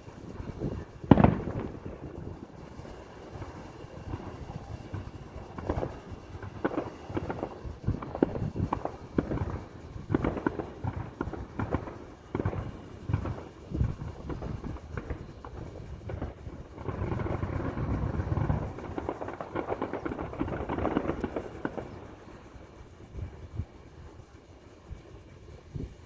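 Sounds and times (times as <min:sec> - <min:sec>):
fireworks bangs and pops: 0:00.0 - 0:26.0
fireworks crackling and rumbling: 0:00.0 - 0:26.0.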